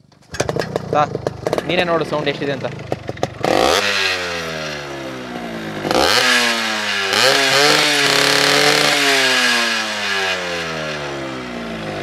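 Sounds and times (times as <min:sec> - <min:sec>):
two-stroke motorcycle engine revving: 0:00.2 - 0:12.0.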